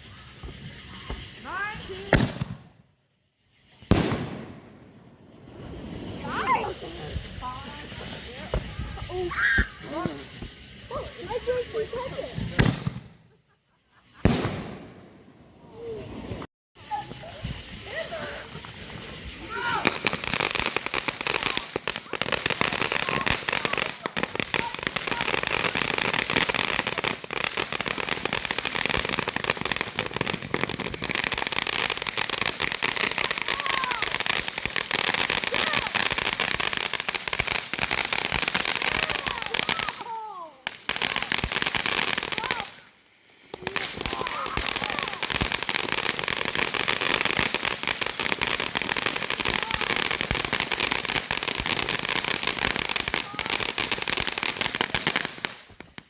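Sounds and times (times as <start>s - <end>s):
fireworks crackling: 0.0s - 56.0s.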